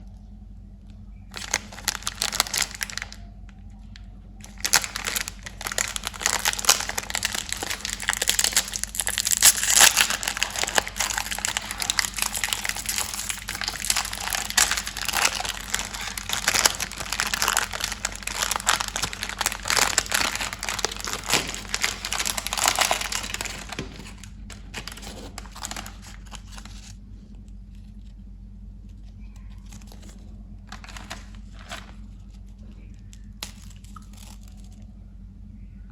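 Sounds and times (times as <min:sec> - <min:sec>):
steady low hum: 0:00.0 - 0:35.9
plastic wrappers crinkling: 0:01.3 - 0:28.2, 0:28.8 - 0:34.9.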